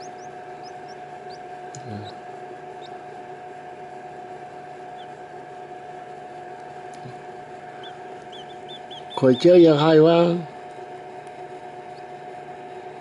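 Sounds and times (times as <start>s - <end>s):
baby birds peeping: 0.0s - 12.8s
steady hum: 0.0s - 13.0s.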